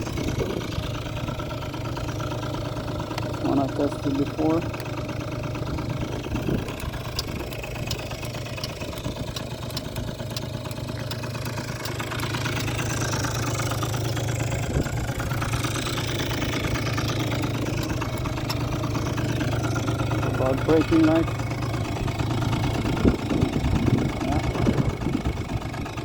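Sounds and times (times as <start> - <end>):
two-stroke scooter engine idling: 0.0 - 26.0.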